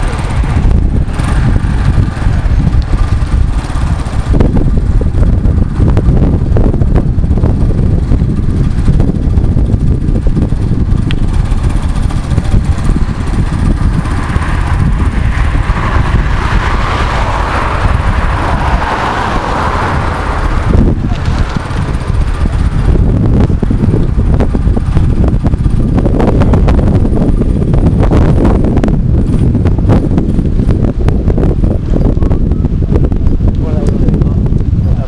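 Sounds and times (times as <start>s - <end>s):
car tyre noise passing: 0.0s - 34.8s
wind buffeting microphone: 0.0s - 35.0s.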